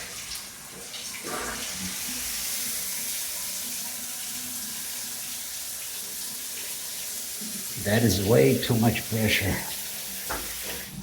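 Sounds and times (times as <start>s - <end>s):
shower head spraying water: 1.3s - 11.0s.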